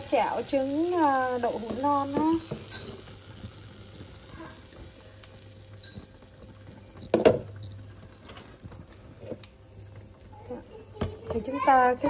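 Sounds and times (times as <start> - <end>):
faint sizzle and bubble in pan: 0.0 - 12.0.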